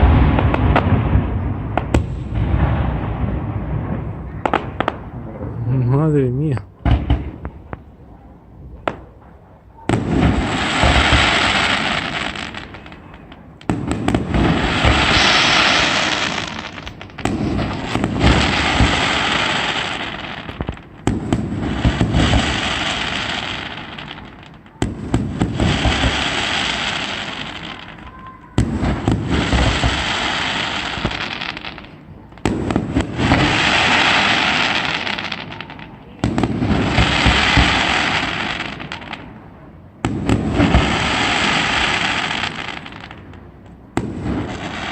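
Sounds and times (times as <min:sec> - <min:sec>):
fireworks bursting with bangs: 0:00.0 - 0:44.9.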